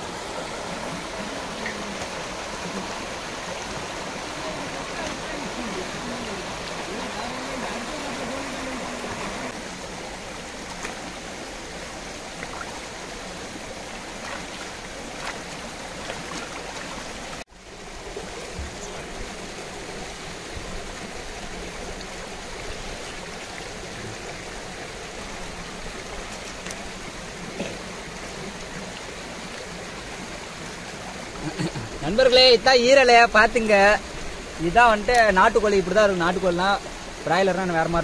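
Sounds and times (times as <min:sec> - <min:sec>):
river rushing over stones: 0:00.0 - 0:38.0.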